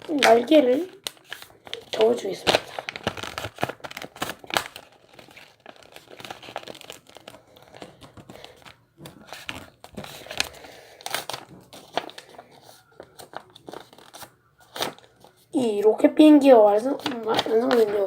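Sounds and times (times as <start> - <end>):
paper crinkling and rustling: 0.0 - 15.5, 16.8 - 18.0.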